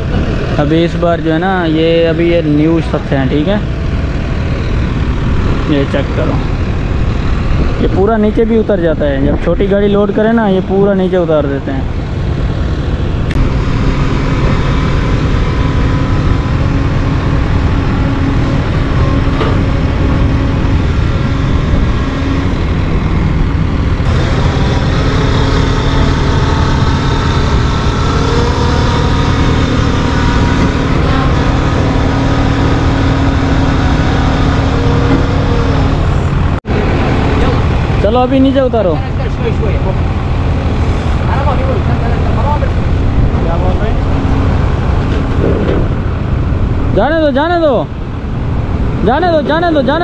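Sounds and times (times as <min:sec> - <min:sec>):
truck engine fast idle: 0:00.0 - 0:49.0.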